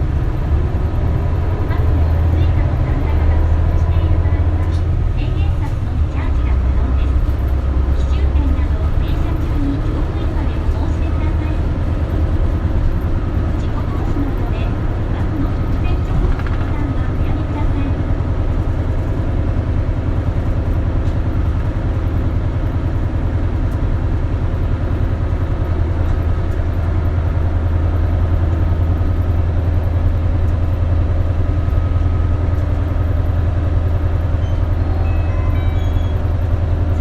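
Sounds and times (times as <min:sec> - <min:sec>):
bus diesel engine humming: 0:00.0 - 0:37.0.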